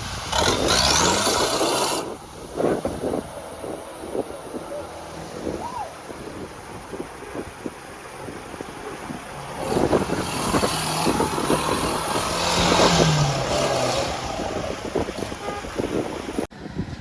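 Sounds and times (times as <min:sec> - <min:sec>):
engine revving under load: 0:00.0 - 0:16.5.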